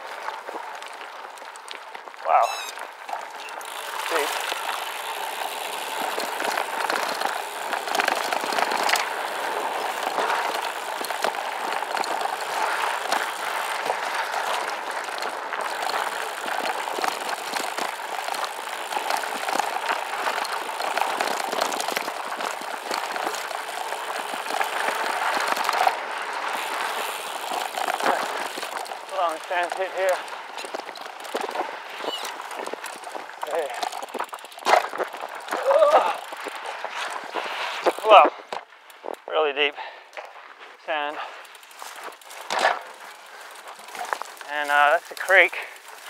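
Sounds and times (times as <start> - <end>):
bike tyres crunching gravel: 0.0 - 46.0
stones and bike rattling: 0.0 - 46.0.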